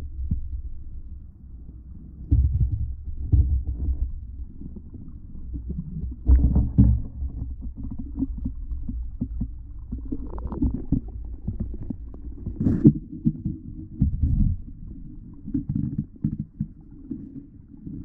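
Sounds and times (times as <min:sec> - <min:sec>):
muffled underwater rumbling: 0:00.0 - 0:18.0.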